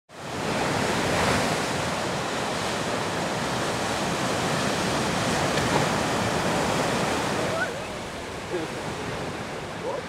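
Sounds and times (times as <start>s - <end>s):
ocean surf breaking on beach: 0.1s - 10.0s.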